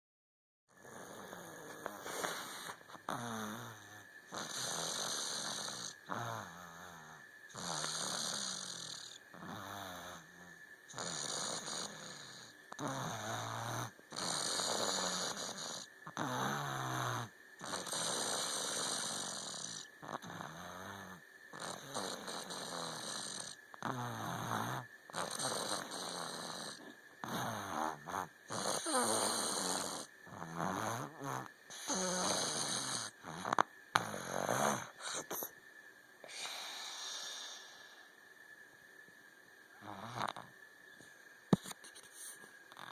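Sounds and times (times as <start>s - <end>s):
person snoring: 0.8s - 35.5s, 36.2s - 38.1s, 39.8s - 40.5s.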